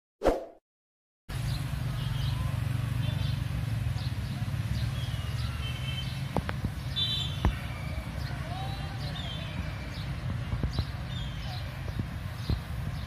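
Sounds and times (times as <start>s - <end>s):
birds chirping: 1.3s - 13.0s.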